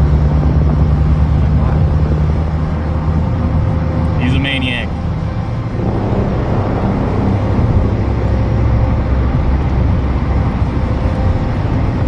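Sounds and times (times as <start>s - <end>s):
car engine rumble: 0.0s - 12.0s
faint steady tones: 0.0s - 12.0s
road noise: 0.0s - 12.0s.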